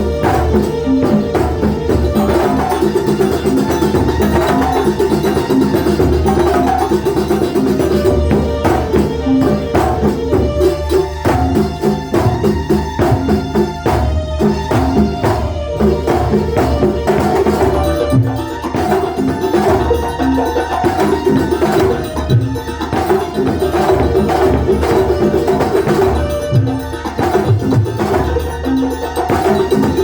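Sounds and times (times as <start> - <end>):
frame drums beating fast: 0.0 - 30.0
sustained melodic lines: 0.0 - 30.0.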